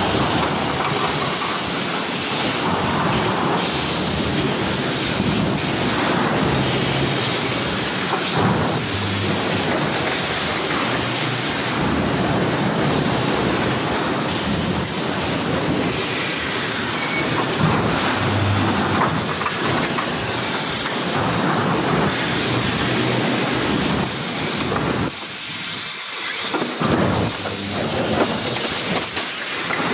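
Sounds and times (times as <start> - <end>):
factory machinery din: 0.0 - 29.9.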